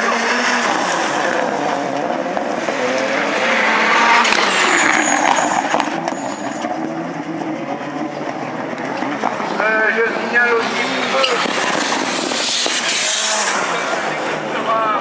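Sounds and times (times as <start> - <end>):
race car engine accelerating: 0.0 - 14.7.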